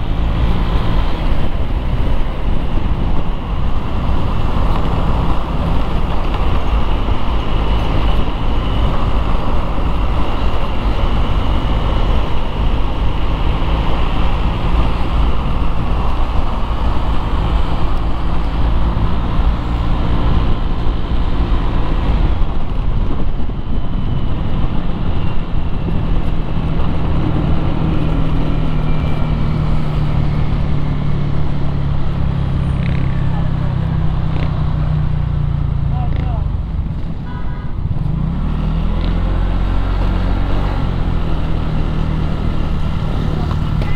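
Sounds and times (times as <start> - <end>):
road noise rushing: 0.0 - 43.9.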